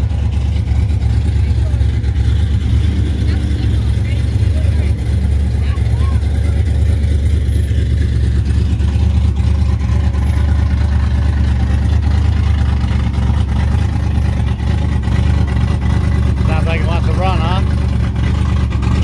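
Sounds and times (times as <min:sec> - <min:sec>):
car engines idling: 0:00.0 - 0:19.0.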